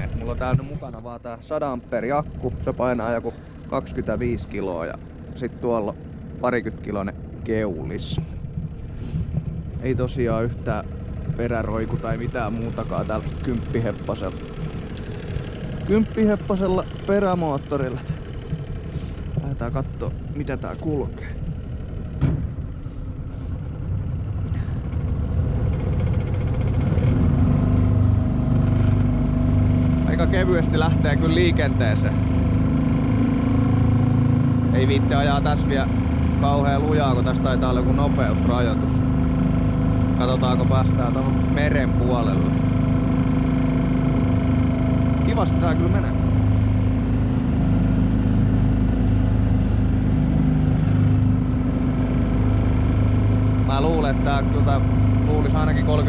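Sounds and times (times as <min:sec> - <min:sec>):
outboard motor throttling up: 0:00.0 - 0:56.0.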